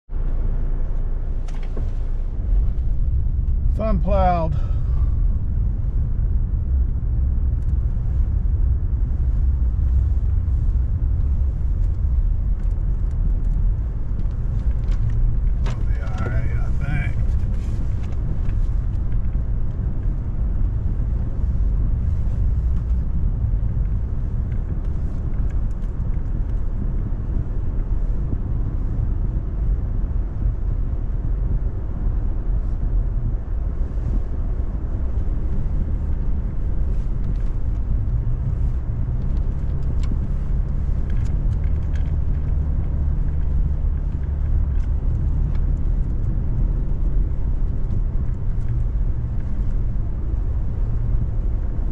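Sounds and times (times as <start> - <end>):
vehicle engine drone: 0.1 - 51.9.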